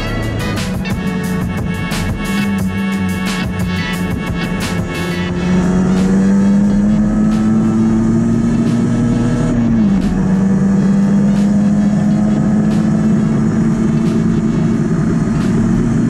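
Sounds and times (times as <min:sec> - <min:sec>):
two-stroke engine accelerating: 0:00.0 - 0:16.0.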